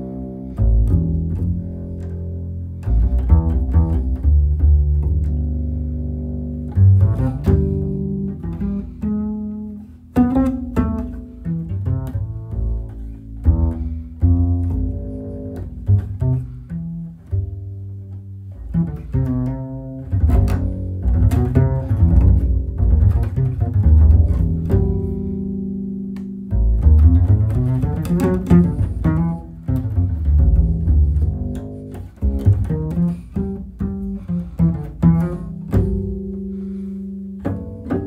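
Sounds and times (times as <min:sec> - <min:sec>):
plucked double bass melody: 0:00.0 - 0:38.0.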